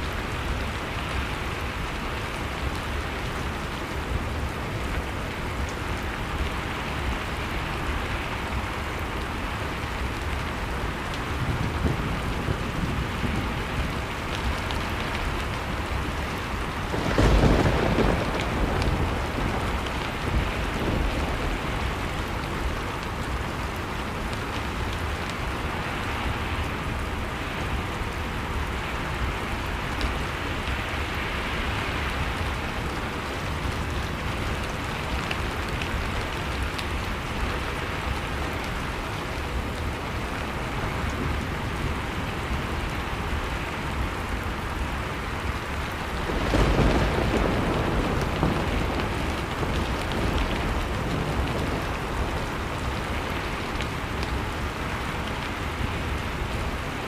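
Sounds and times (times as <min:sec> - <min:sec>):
blizzard wind: 0:00.0 - 0:57.0
wood fire crackling: 0:00.0 - 0:57.0.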